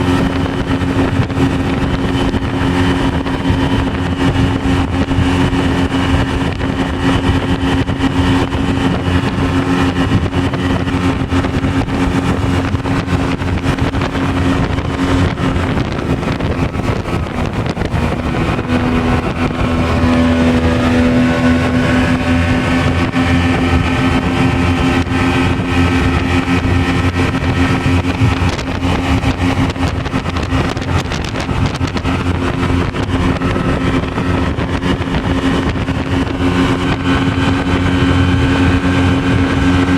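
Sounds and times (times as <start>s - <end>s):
rushing water noise: 0.0s - 39.9s
speedboat engine running: 0.0s - 39.9s.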